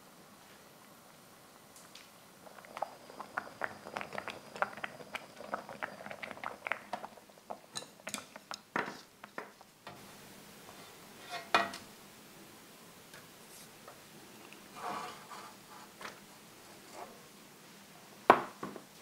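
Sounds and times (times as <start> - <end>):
water boiling in saucepan: 0.0 - 19.0.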